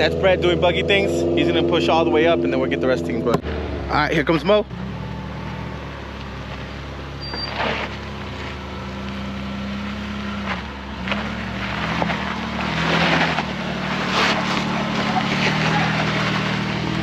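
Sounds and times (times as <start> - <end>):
off-road vehicle engine under load: 0.0 - 17.0.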